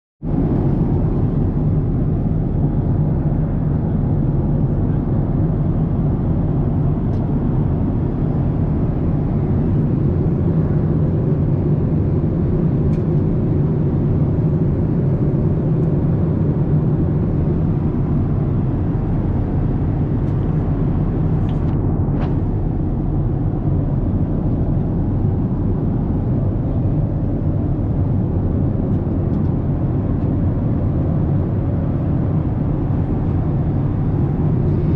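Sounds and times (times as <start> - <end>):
jet engines rumbling: 0.2 - 34.9.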